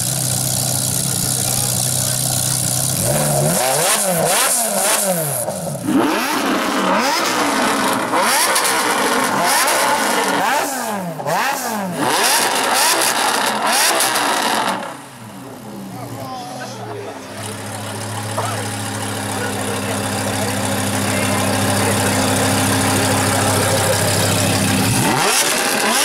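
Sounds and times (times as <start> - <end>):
car engine revving: 0.0 - 16.4, 17.2 - 26.0.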